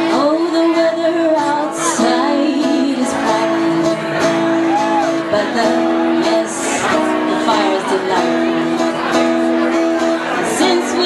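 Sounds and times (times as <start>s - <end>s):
woman singing: 0.0s - 8.9s, 10.4s - 11.0s
acoustic guitar chords: 0.0s - 11.0s.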